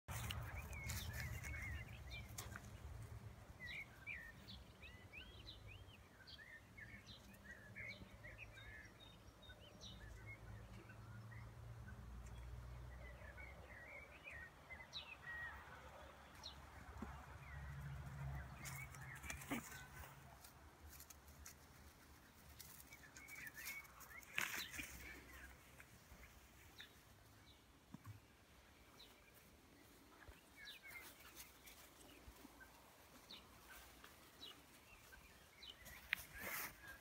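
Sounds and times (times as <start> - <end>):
small birds chirping: 0.1 - 37.0.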